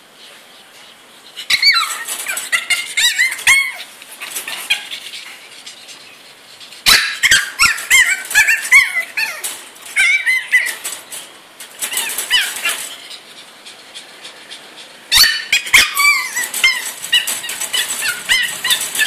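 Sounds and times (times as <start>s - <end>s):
puppy whining and yelping: 1.3s - 19.0s.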